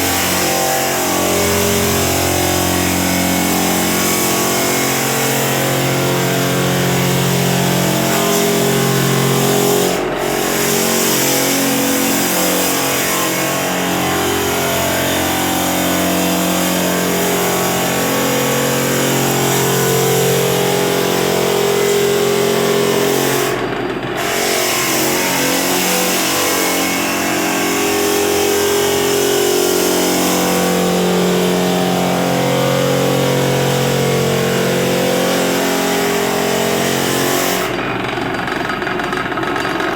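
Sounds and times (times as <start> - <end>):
floor sander motor humming: 0.0 - 39.9.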